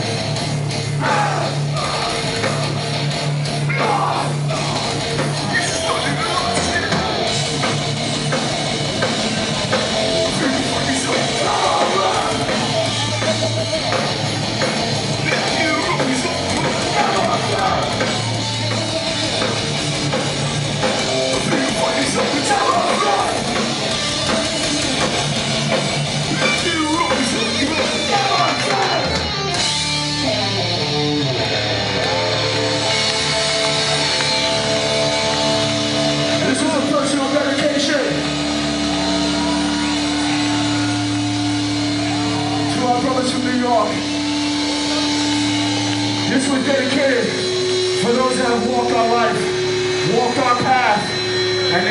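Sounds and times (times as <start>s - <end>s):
held guitar chords ringing: 0.0s - 51.9s
punk band playing loud: 0.0s - 51.9s.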